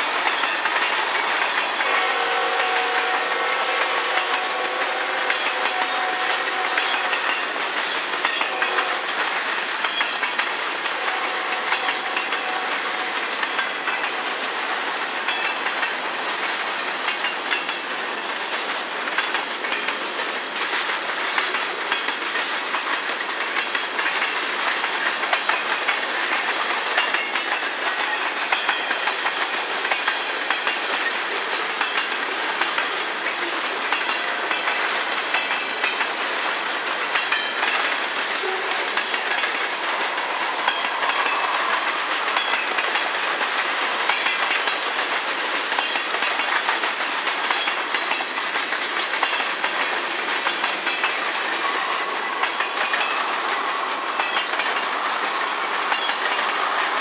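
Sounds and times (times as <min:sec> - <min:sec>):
train wheels clacking over rail joints: 0:00.0 - 0:57.0.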